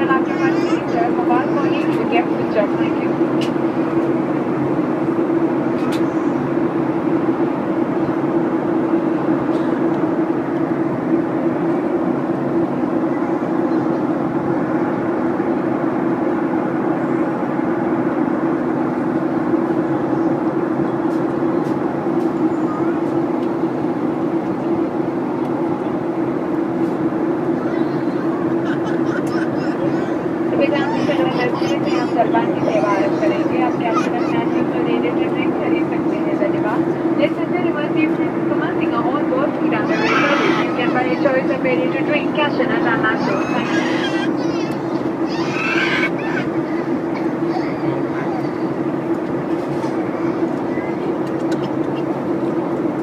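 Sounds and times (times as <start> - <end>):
jet engine drone in cabin: 0.0 - 53.0.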